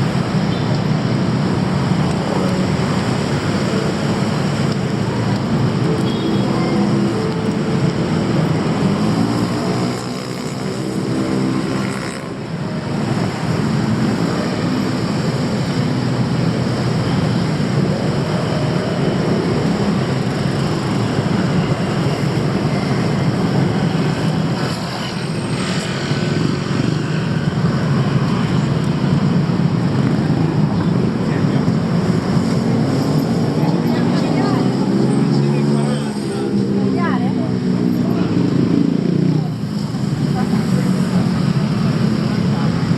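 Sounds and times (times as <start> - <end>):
road noise: 0.0 - 42.9
traffic engine hum: 0.0 - 42.9.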